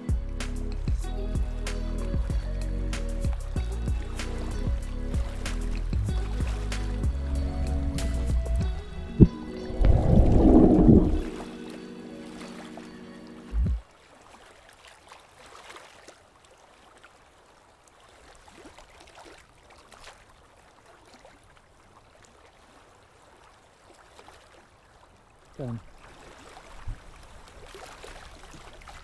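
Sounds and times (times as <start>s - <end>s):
water lapping: 3.2s - 29.0s.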